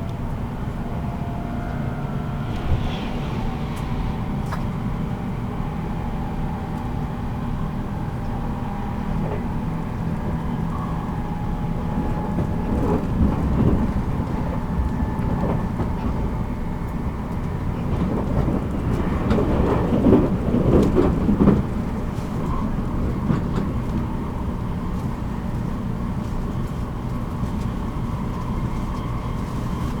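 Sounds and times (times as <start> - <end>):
train knocks and clatter: 0.0 - 30.0
train wheels rumbling on rail: 0.0 - 30.0.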